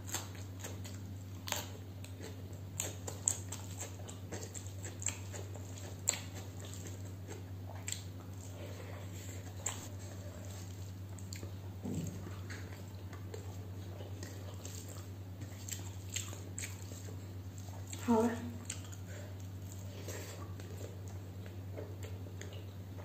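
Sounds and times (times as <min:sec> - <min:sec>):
person chewing with crackles: 0:00.0 - 0:23.0
steady low hum: 0:00.0 - 0:23.0.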